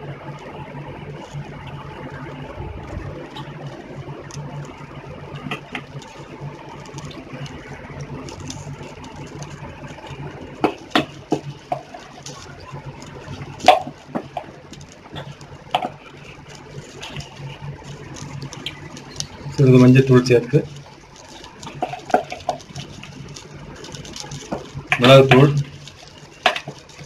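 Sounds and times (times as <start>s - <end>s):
broth bubbling in a pot: 0.0s - 27.0s
steady low hum: 0.0s - 27.0s
sharp pops: 2.9s - 27.0s.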